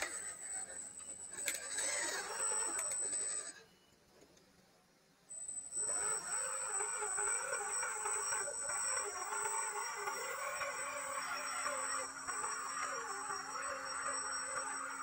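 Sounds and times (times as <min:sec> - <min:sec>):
rc car electric motor whining: 0:00.0 - 0:03.7, 0:05.3 - 0:15.0.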